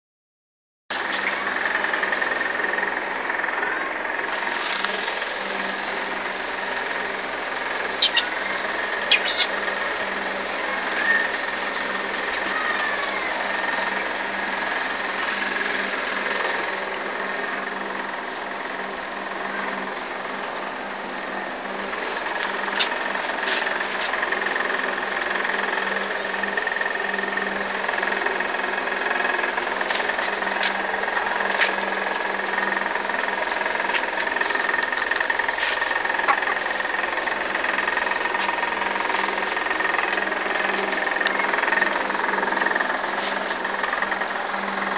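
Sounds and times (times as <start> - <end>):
machine hum with high whine: 0.9 - 44.9.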